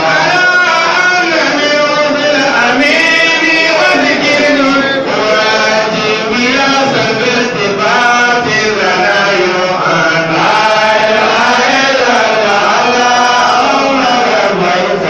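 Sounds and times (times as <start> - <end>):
men chanting devotional chant: 0.0 - 15.0.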